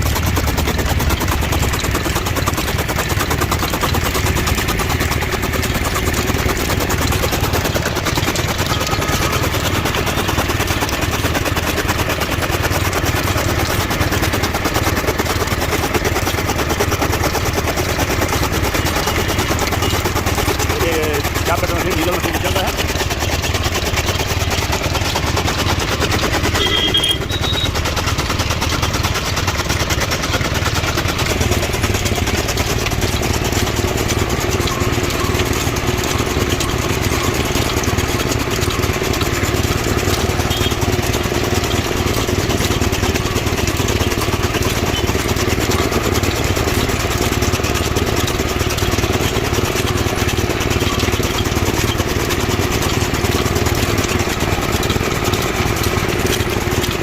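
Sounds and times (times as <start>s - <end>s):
chaff cutter chopping fodder: 0.0s - 57.0s.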